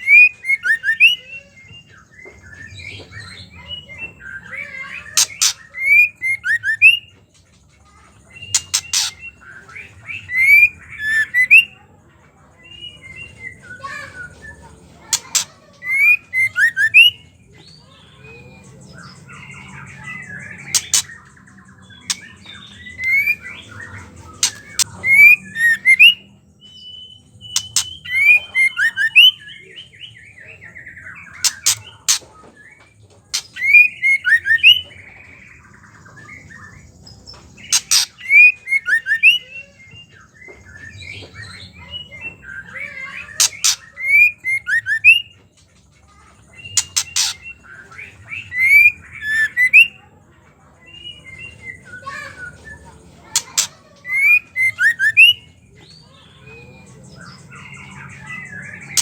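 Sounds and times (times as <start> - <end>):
bird chattering clicks and chirps: 4.1 - 11.7, 13.8 - 26.2, 27.5 - 29.4, 31.1 - 39.7, 40.4 - 50.1, 50.8 - 59.0.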